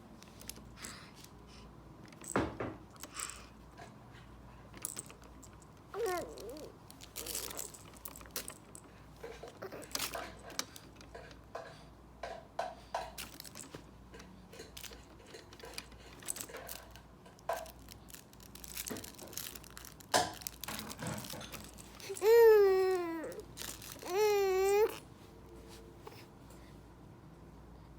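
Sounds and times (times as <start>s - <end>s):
baby moving rustles and clicks: 0.2s - 26.7s.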